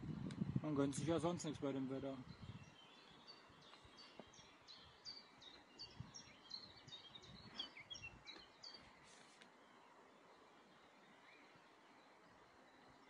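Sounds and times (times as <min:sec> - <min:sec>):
songbird chirping: 0:00.7 - 0:13.0.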